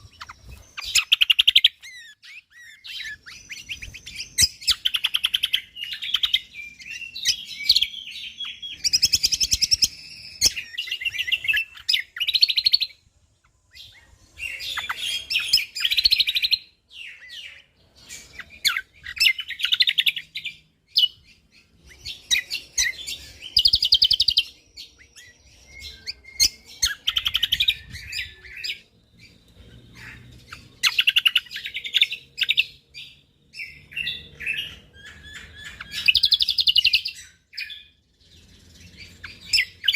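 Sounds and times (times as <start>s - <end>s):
songbird rapid chirping: 0.0s - 39.9s.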